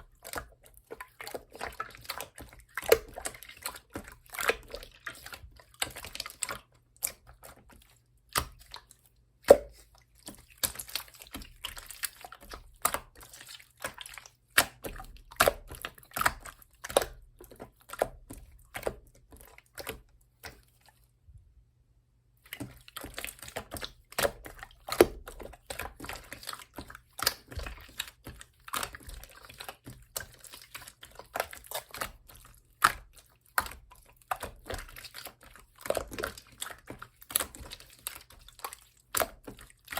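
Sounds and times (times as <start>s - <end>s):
slime being squished: 0.0s - 20.8s, 22.4s - 39.9s.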